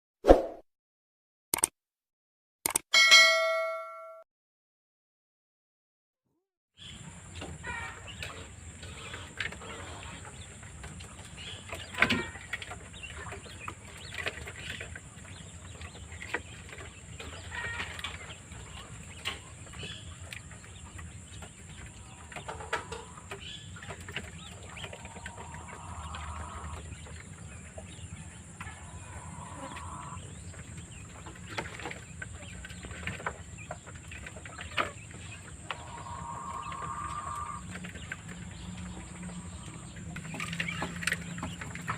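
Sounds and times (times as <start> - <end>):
quail clucking and chirping: 6.8 - 41.9.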